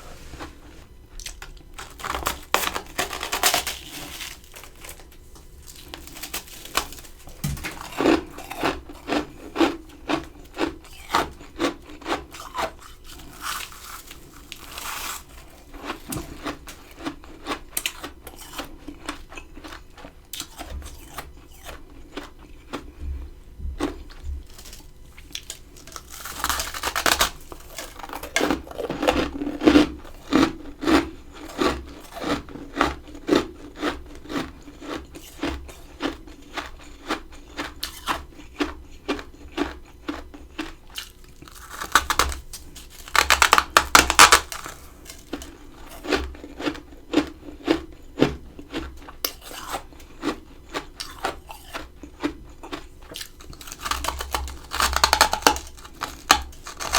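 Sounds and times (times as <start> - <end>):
chewing crunchy frost: 0.0 - 56.9.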